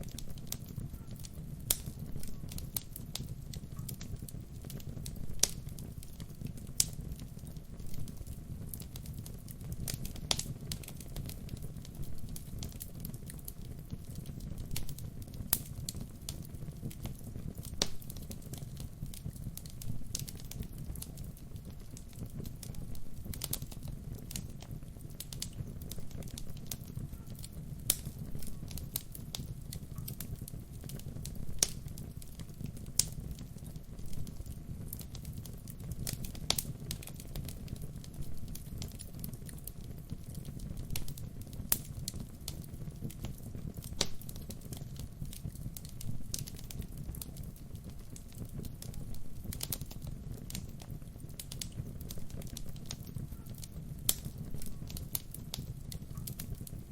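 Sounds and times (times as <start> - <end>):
fire crackling and popping: 0.0 - 56.9
flames rumbling: 0.0 - 56.9.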